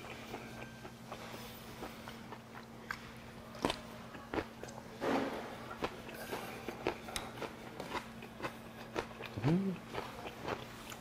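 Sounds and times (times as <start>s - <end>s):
crunchy chewing with mouth clicks: 0.0s - 4.9s, 5.6s - 11.0s.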